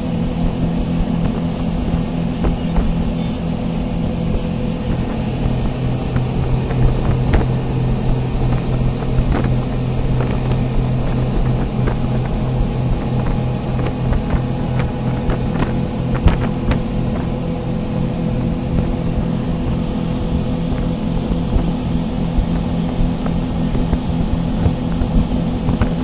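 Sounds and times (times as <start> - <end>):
boat engine humming: 0.0 - 26.0
water rushing: 0.0 - 26.0
wind: 0.0 - 26.0.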